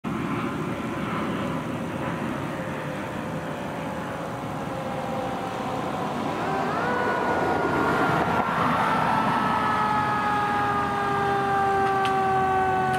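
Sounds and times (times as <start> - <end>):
traffic and engine rumble: 0.1 - 12.9
faint siren: 2.0 - 12.9.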